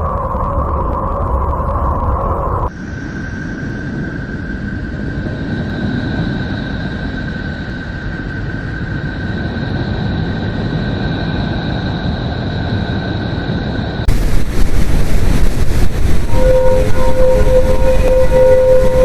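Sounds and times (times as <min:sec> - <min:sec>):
deep steady noise: 0:00.0 - 0:19.0.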